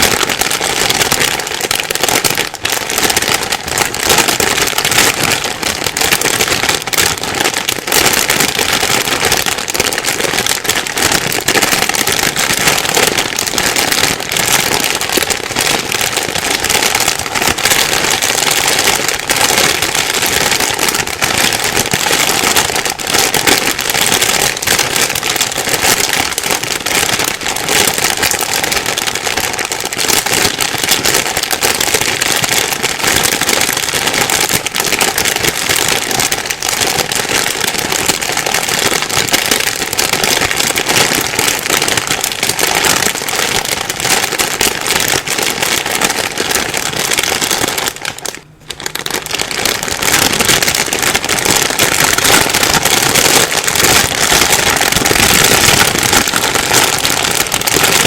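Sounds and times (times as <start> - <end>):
plastic bag crumpling: 0.0 - 58.0.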